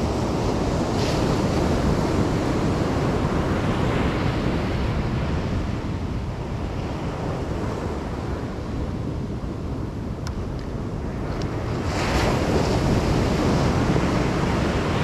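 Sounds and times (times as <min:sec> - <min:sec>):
ocean surf washing up beach: 0:00.0 - 0:15.0
wind rumbling on microphone: 0:00.0 - 0:15.0.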